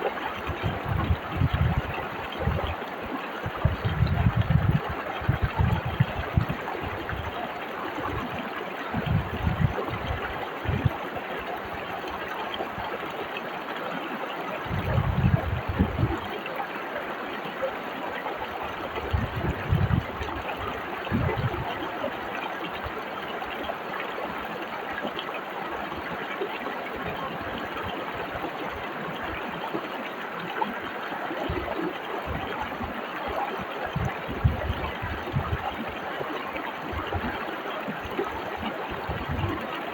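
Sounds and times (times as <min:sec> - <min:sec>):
low rumbling water surges: 0:00.0 - 0:39.9.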